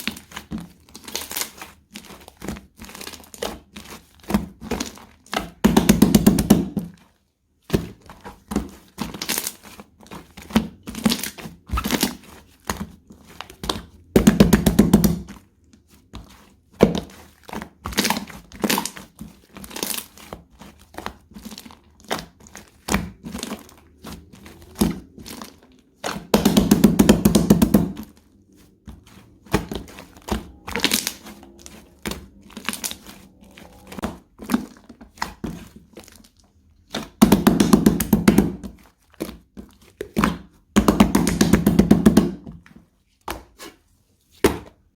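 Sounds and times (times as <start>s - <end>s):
slime squished by hand: 0.0s - 44.9s.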